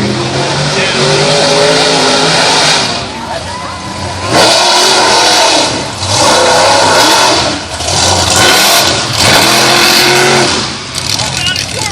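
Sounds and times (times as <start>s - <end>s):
vehicle engine revving: 0.0s - 11.9s.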